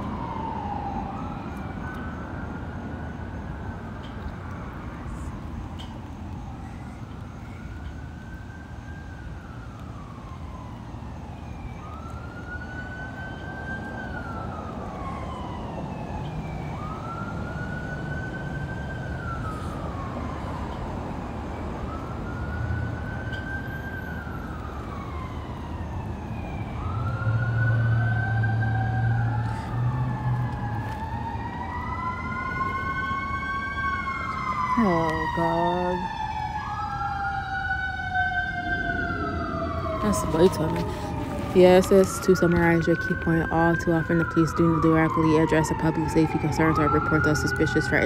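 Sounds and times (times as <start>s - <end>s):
emergency siren wailing: 0.0s - 48.0s
vehicle engine rumble: 0.0s - 48.0s.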